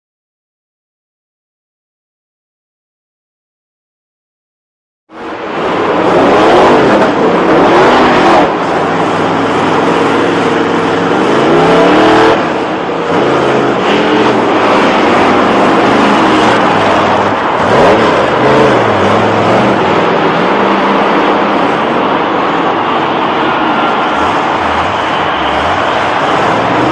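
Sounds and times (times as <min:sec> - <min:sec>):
monster truck engine revving: 0:05.2 - 0:26.9.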